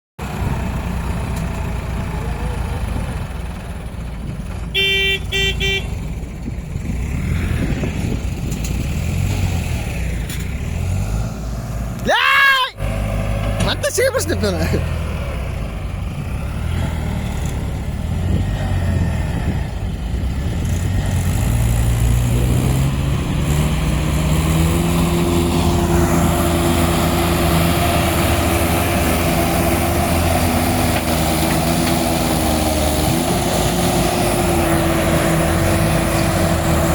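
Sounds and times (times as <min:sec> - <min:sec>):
tractor engine running: 0:00.2 - 0:12.1, 0:12.8 - 0:36.9.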